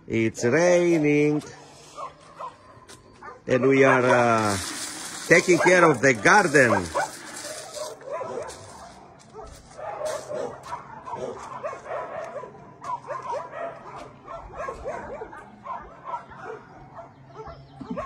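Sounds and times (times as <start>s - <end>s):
dogs barking and yipping: 1.5s - 18.0s.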